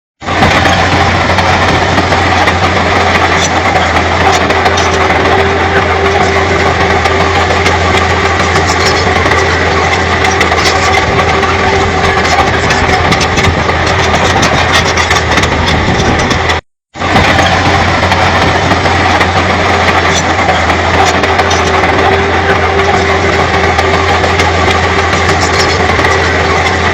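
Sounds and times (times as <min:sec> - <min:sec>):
bulldozer diesel engine running: 0:00.2 - 0:26.9.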